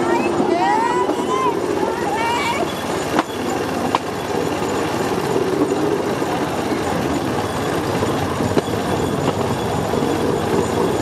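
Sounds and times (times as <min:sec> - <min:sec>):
wheels rolling on rails: 0:00.0 - 0:11.0.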